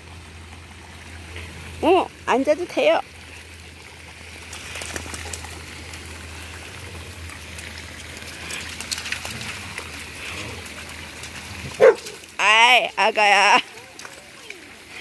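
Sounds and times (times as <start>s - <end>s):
steady wash of water: 0.0s - 15.0s
dog paws splashing in water: 0.5s - 15.0s.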